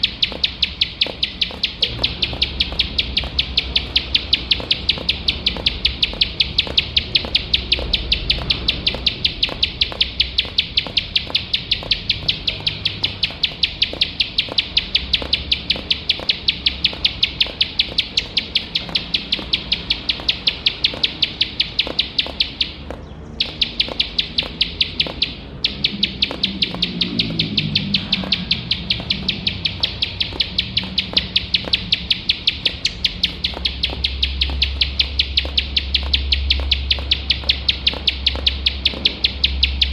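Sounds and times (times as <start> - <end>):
bird singing sharp high notes: 0.0 - 39.9.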